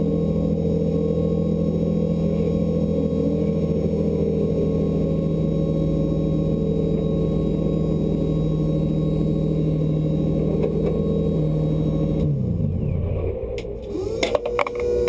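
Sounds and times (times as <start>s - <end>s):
car engine idling: 0.0s - 14.9s
engine winding down to a stop: 0.0s - 15.0s.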